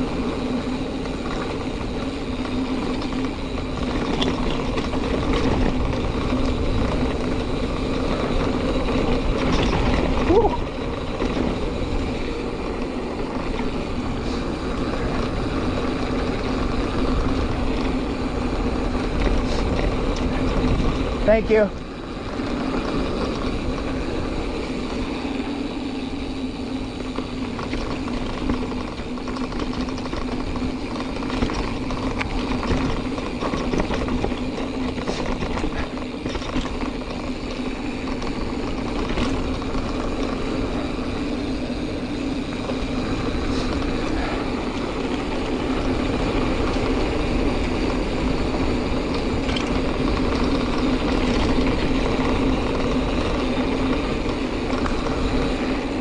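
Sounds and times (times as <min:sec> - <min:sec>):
bike clicks and rattles: 0:00.0 - 0:56.0
bike tyres rumbling on dirt trail: 0:00.0 - 0:56.0.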